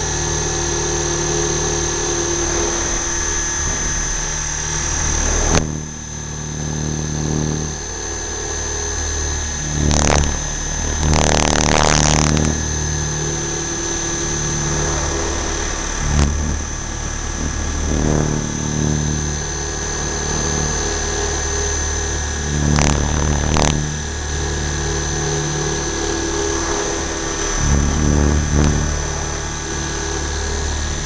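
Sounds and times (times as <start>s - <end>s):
rc helicopter rotor drone: 0.0s - 31.0s
rushes of air noise: 0.0s - 31.0s.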